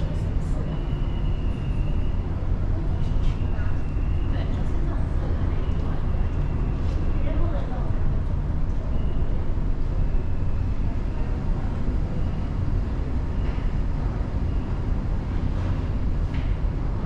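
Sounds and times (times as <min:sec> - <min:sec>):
ship engines low rumble: 0:00.0 - 0:17.0.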